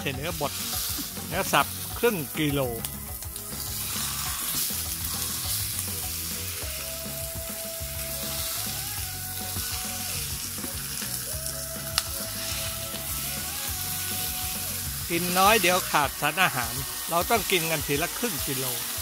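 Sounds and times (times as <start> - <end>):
beef sizzling in hot oil: 0.0 - 19.0.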